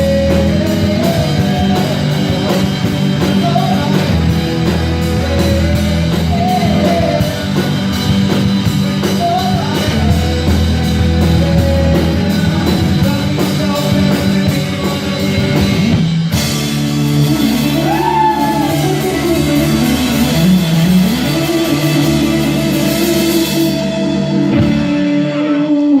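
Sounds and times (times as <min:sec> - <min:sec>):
person singing: 0:00.0 - 0:16.1, 0:17.2 - 0:23.9, 0:24.8 - 0:26.0
rock band playing: 0:00.0 - 0:26.0.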